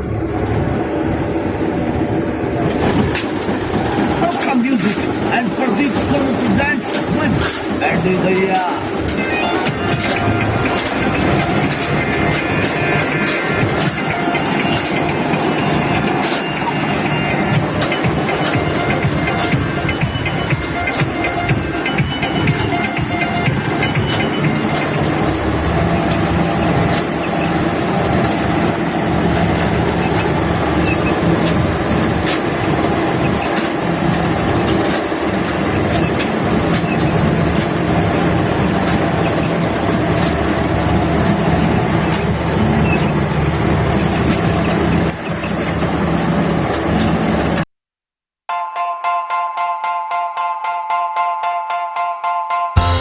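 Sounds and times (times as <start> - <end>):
combine harvester running: 0.0 - 47.6, 52.8 - 53.0.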